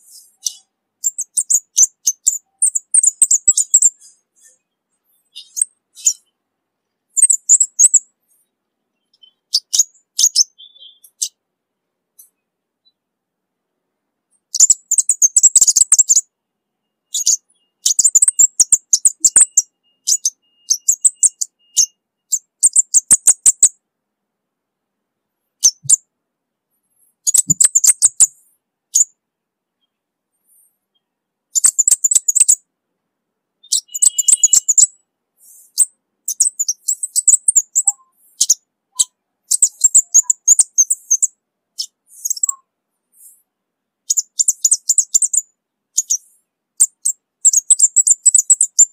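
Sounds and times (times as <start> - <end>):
high thin bird chirps: 0.0 - 11.4, 12.1 - 13.0, 14.3 - 23.8, 25.4 - 26.1, 26.8 - 29.2, 29.8 - 32.7, 33.6 - 48.9.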